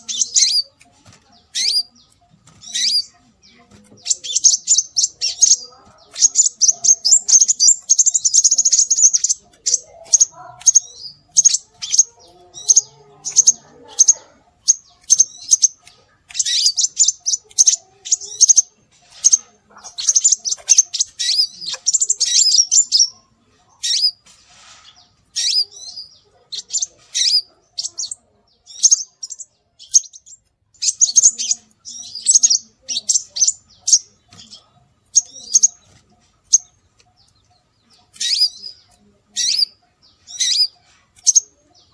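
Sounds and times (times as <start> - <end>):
bird chirps and twitters: 0.0 - 41.9.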